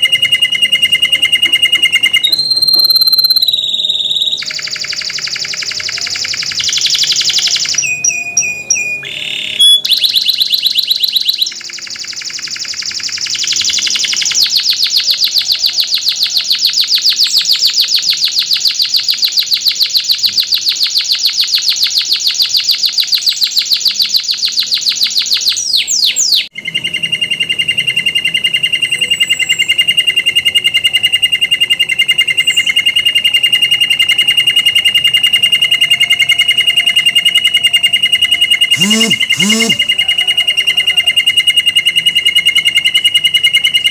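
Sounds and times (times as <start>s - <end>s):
canary singing and trilling: 0.0s - 43.9s.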